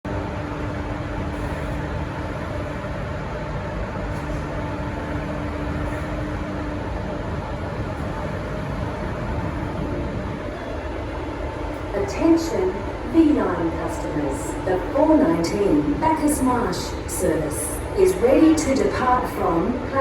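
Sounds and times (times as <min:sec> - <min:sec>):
diesel locomotive idling: 0:00.1 - 0:20.0
faint held hum: 0:00.1 - 0:20.0.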